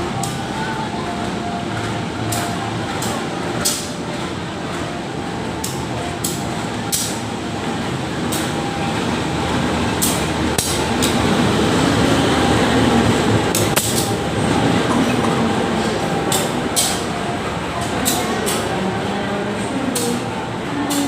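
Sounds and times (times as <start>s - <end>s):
train rumbling: 0.0s - 21.0s
wheels and couplings clanking: 0.0s - 21.0s.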